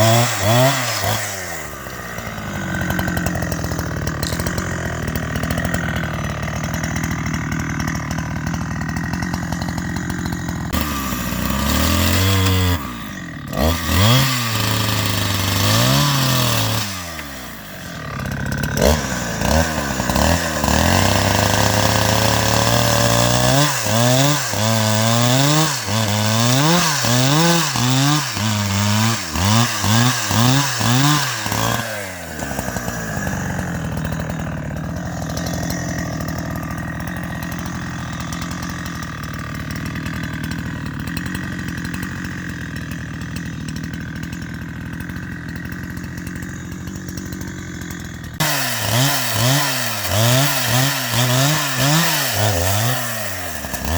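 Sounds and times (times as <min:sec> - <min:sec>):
chainsaw engine revving: 0:00.0 - 0:53.9.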